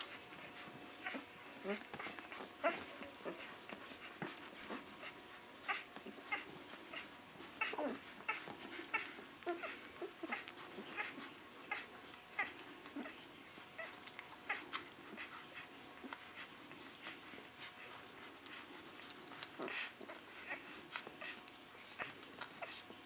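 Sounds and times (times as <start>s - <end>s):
puppies squeaking and whimpering: 0.0s - 23.0s.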